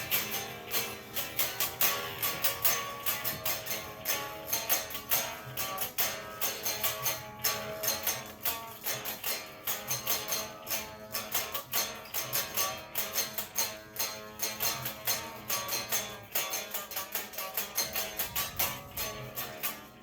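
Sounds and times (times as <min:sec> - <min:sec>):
guitar strumming: 0:00.0 - 0:20.0.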